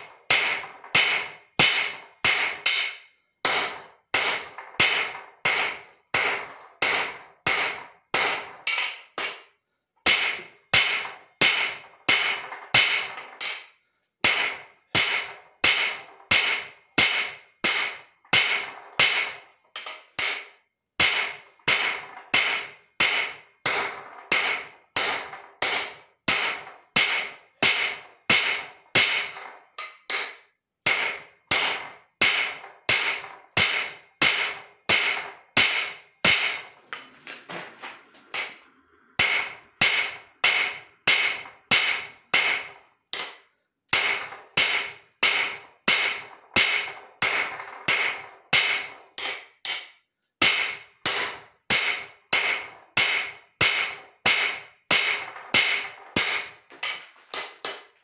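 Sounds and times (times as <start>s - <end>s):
hammer striking steel on anvil: 0.0s - 58.0s.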